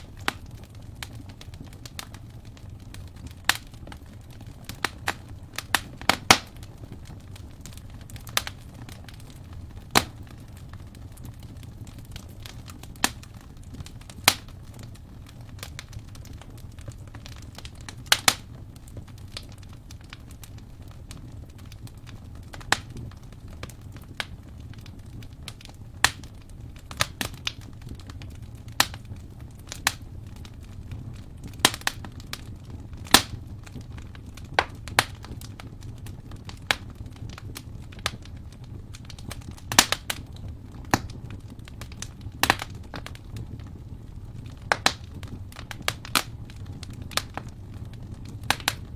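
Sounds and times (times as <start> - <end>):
low rumble of burning: 0.0 - 48.9
wood fire crackling: 0.0 - 48.9.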